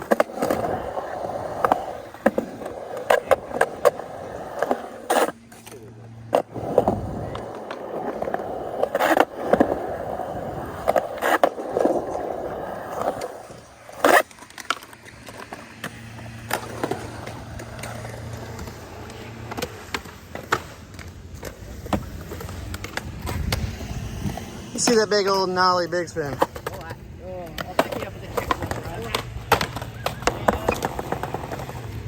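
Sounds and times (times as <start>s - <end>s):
skateboard clacking on ground: 0.0s - 32.0s
skateboard wheels rolling: 0.0s - 32.0s.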